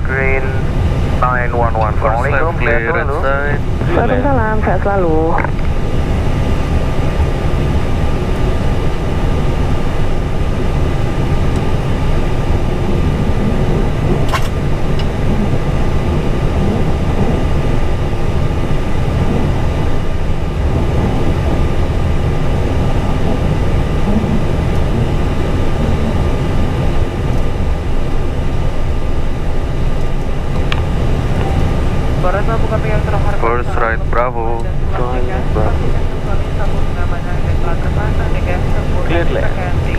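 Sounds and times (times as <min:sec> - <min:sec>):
aircraft cockpit rumble: 0:00.0 - 0:39.9
faint steady whine: 0:00.0 - 0:39.9.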